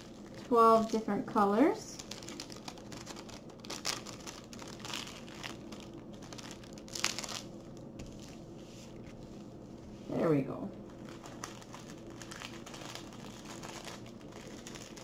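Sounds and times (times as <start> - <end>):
plastic film crinkling: 0.0 - 9.7, 10.8 - 15.0.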